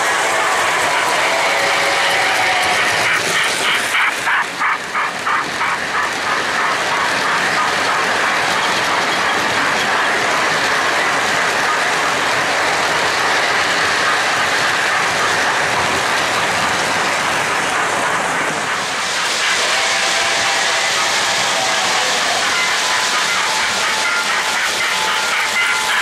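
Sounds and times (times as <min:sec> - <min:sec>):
train wheels clattering over rail joints: 0:00.0 - 0:26.0.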